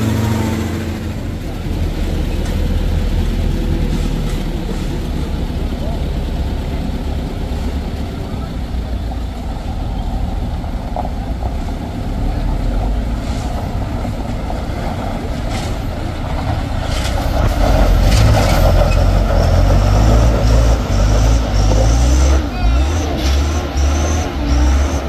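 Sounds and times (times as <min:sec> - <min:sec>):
diesel truck engine straining: 0:00.0 - 0:25.0.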